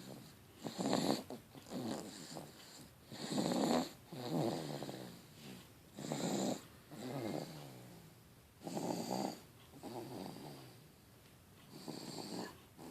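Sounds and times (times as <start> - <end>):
baby snoring: 0.0 - 8.0, 8.6 - 10.8, 11.8 - 12.9.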